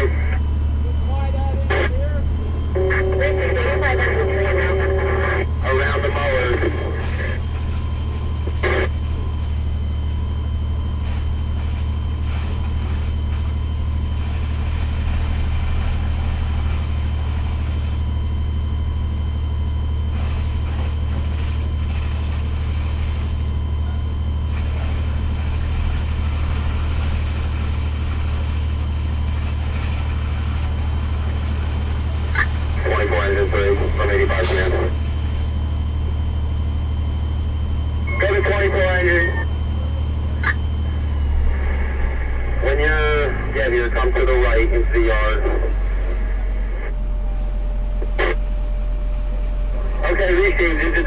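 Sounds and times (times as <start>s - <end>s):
faint high whine: 0.0s - 28.0s, 29.4s - 51.0s
diesel engine running: 0.0s - 51.0s.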